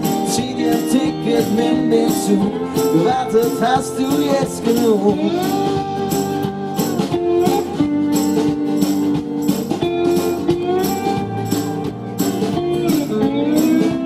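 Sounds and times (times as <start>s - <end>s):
band playing pop-rock instrumental: 0.0s - 14.0s.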